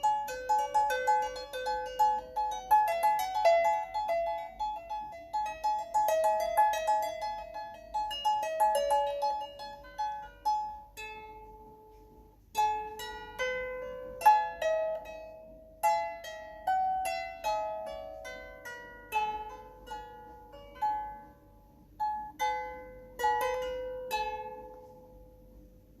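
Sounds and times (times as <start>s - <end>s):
lyre being plucked: 0.0s - 26.0s.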